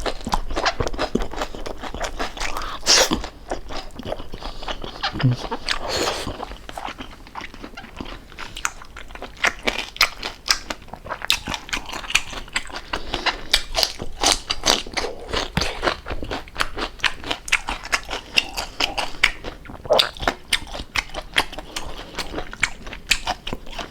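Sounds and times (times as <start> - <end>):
crunching and chewing crispy food: 0.0 - 23.9.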